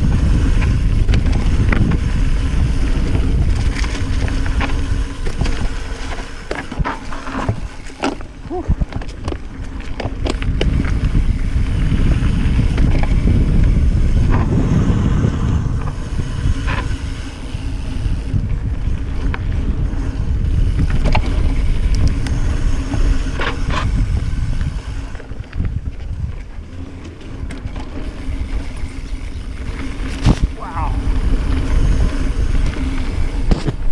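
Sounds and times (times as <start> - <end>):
bike clicks and knocks: 0.0 - 33.9
wind buffeting microphone: 0.0 - 33.9.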